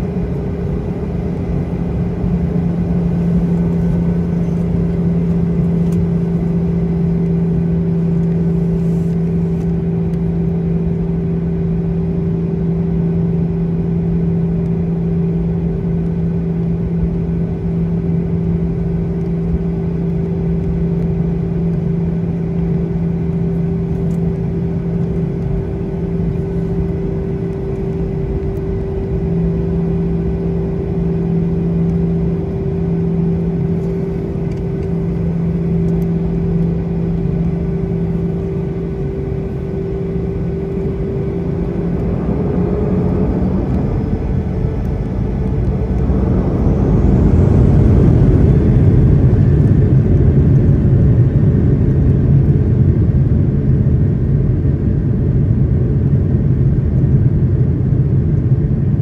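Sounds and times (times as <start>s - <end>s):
airplane cabin engine hum: 0.0s - 59.0s.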